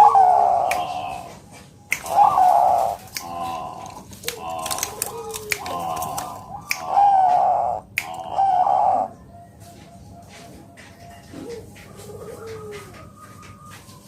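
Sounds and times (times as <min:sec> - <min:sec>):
dove cooing with trills: 0:00.0 - 0:14.0.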